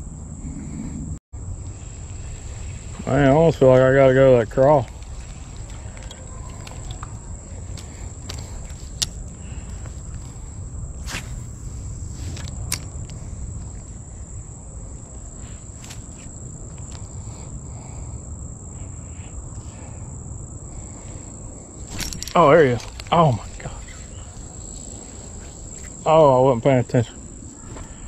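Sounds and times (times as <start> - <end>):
high-pitched insect drone: 0.0 - 28.0
low rumble: 0.0 - 28.0.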